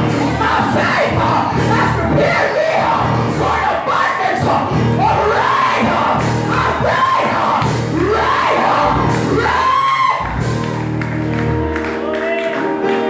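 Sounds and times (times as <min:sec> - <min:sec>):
congregation shouting and calling out: 0:00.0 - 0:10.5
church keyboard music: 0:00.0 - 0:13.0.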